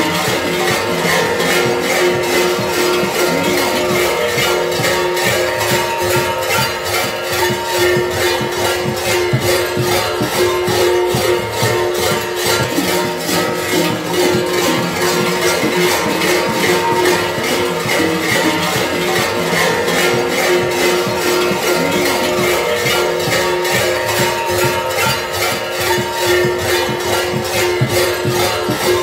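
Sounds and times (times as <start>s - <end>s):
large metal bells clanging: 0.0s - 29.0s.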